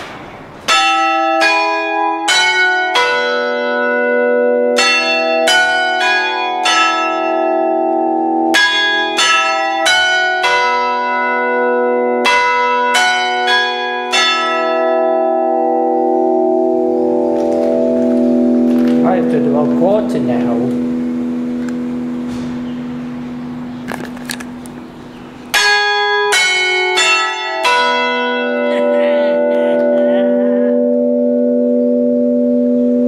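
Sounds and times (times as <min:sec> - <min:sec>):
church bells chiming: 0:00.6 - 0:33.0.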